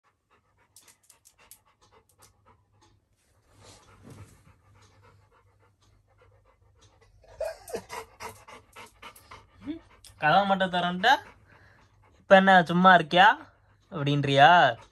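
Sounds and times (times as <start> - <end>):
dog panting: 0.0 - 14.9.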